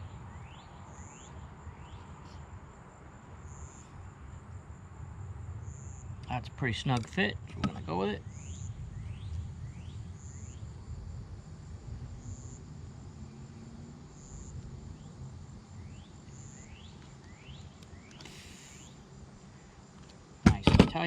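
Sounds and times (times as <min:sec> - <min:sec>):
insect high buzz: 0:00.0 - 0:21.0
low steady rumble: 0:00.0 - 0:21.0.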